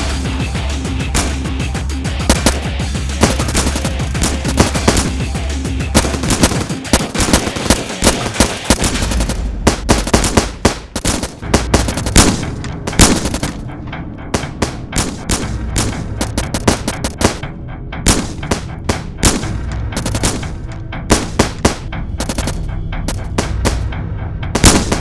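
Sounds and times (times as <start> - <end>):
rapid gunfire: 0.0 - 17.5, 18.1 - 23.9, 24.6 - 25.0.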